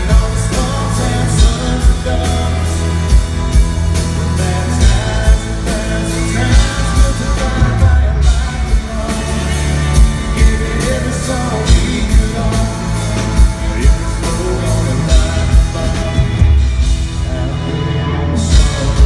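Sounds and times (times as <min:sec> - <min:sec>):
acoustic guitar: 0:00.0 - 0:19.0
electric bass: 0:00.0 - 0:19.0
man singing: 0:00.0 - 0:19.0.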